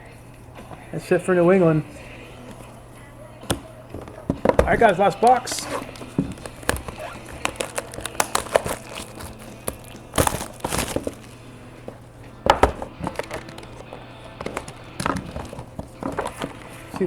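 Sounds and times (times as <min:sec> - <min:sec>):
loud rustles: 0:00.0 - 0:17.0
plastic wrapping crinkling: 0:00.6 - 0:17.0.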